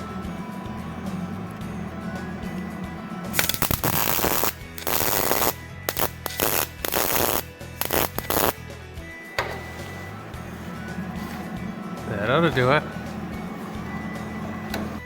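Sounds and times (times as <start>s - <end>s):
arc welder crackling: 0.0s - 15.0s.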